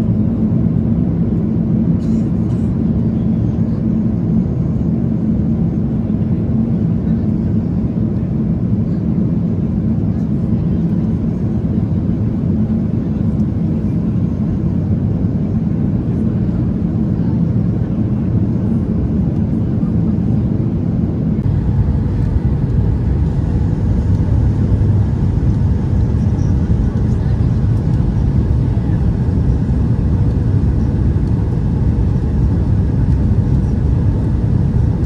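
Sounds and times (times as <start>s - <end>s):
jet airliner rumble: 0.0s - 35.0s.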